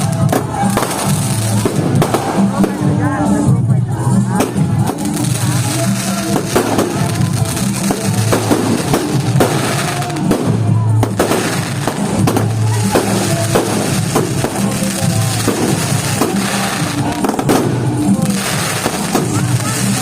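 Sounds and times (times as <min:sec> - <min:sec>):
loud music with bass and drums: 0:00.0 - 0:20.0.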